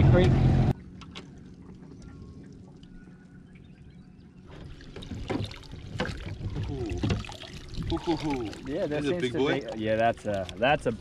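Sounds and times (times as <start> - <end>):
water splashing and streaming: 0.7 - 11.0.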